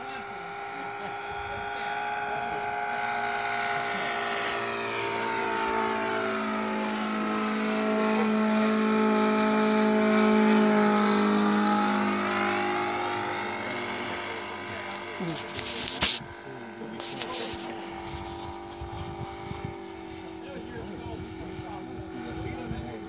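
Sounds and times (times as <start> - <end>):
model airplane engine in flight: 0.0 - 23.0.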